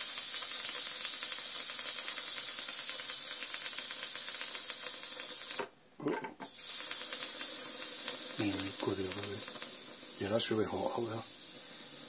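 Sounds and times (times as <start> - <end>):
steam hissing from pressure valve: 0.0 - 5.7, 6.4 - 12.0.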